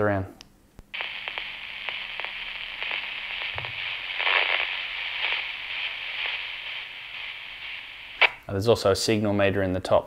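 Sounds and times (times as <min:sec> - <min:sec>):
radio static hiss and crackles: 0:00.9 - 0:09.2.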